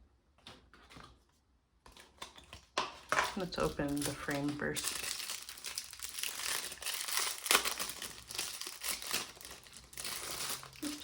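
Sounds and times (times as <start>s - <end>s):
packaging crinkling and tearing: 1.9s - 11.0s.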